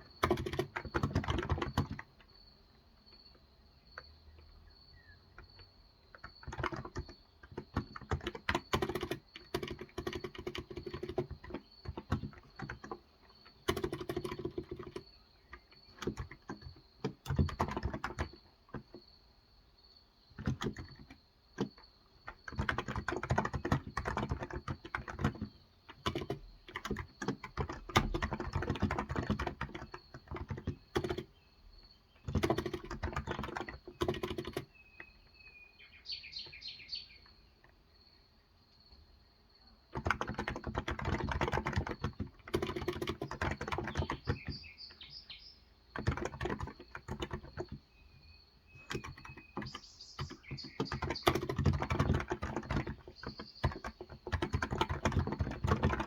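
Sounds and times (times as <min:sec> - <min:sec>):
keyboard typing: 0:00.0 - 0:02.4, 0:05.3 - 0:19.0, 0:20.3 - 0:35.2, 0:39.9 - 0:45.1, 0:45.9 - 0:48.1, 0:48.7 - 0:56.0.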